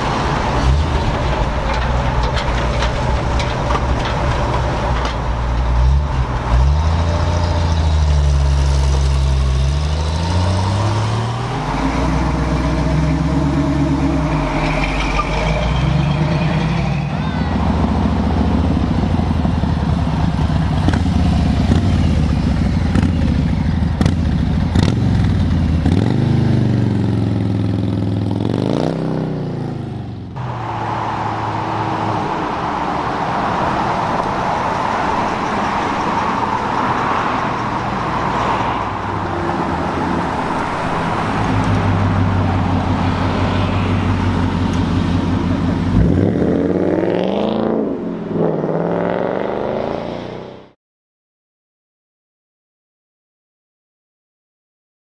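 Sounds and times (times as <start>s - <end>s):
car engine rumbling and revving: 0.0s - 50.8s.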